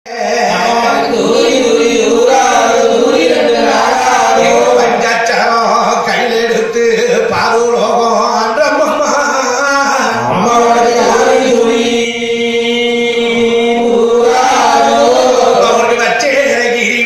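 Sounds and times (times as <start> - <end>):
voices chanting together: 0.1 - 17.0.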